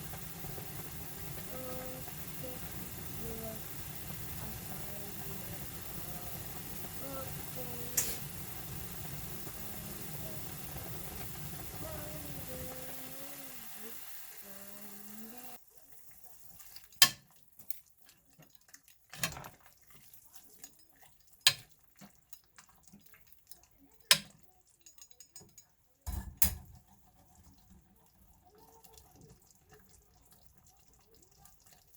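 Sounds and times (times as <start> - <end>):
steady kitchen hum: 0.0 - 31.9.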